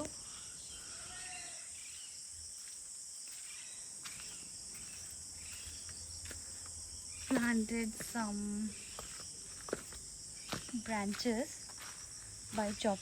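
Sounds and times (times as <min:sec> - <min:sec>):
faint chirps: 0:00.0 - 0:11.0
insects chorus: 0:00.0 - 0:13.0.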